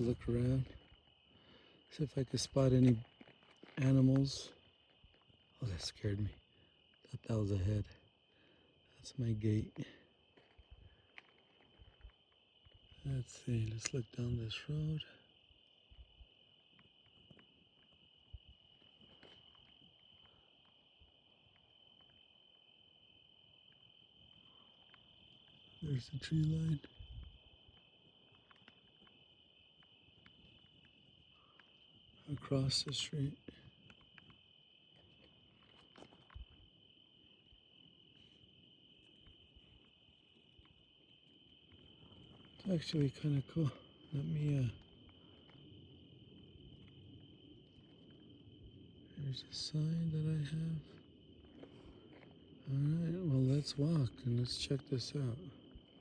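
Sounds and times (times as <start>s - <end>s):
insect trill: 0.0s - 56.0s.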